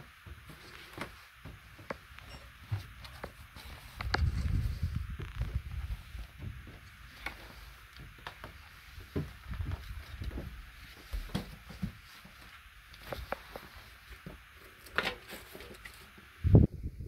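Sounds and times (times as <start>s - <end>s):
footsteps: 0.0s - 15.9s
steady hiss: 0.0s - 17.0s.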